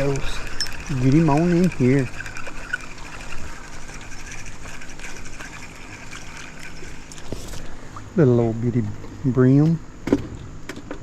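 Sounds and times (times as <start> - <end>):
water splashing and trickling: 0.0 - 8.8
low steady hum: 0.0 - 11.0.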